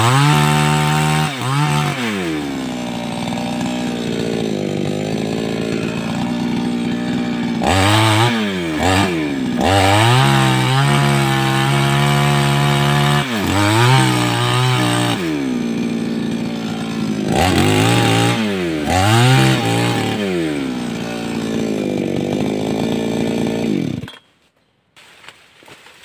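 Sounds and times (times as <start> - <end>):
chainsaw revving: 0.0 - 24.1.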